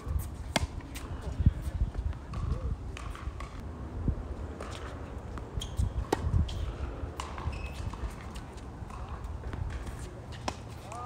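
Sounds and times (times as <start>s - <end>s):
tennis ball hits and bounces: 0.1s - 1.3s, 2.3s - 3.6s, 4.5s - 11.0s.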